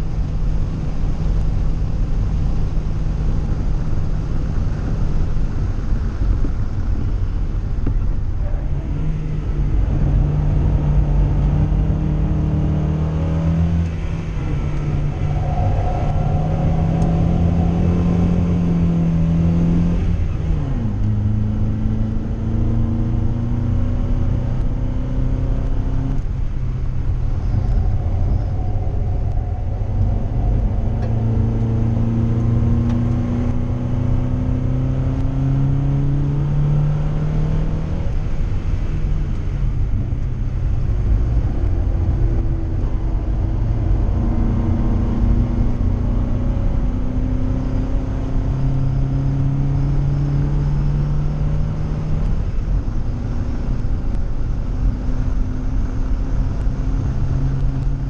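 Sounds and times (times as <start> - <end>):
road and wind noise: 0.0 - 58.0
car engine revving through gears: 7.9 - 58.0.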